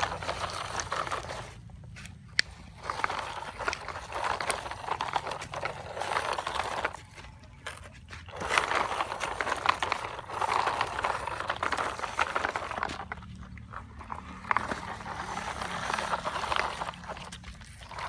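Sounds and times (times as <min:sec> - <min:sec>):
toy truck wheels rolling over dirt: 0:00.0 - 0:18.0.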